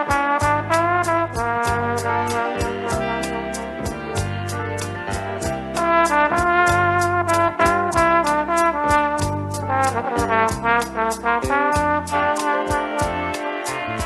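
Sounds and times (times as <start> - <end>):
high percussion ticking: 0.0 - 14.0
samba band playing: 0.0 - 14.0
trombone melody: 0.0 - 14.0.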